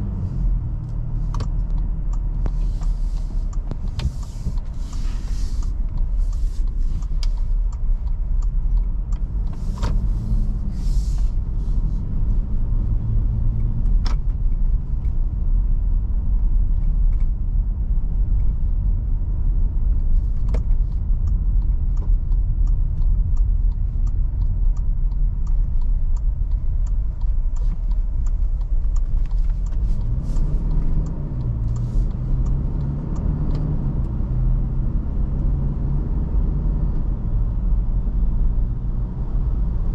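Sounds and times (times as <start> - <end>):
road and tyre rumble: 0.0 - 39.9
light ticks: 0.1 - 39.9.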